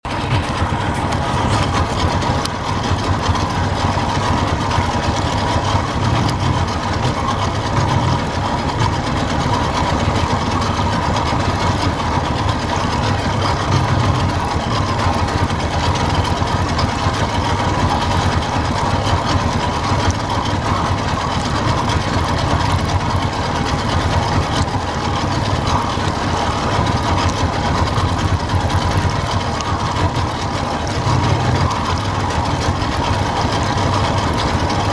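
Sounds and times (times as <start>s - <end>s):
boat motor running: 0.0s - 34.9s.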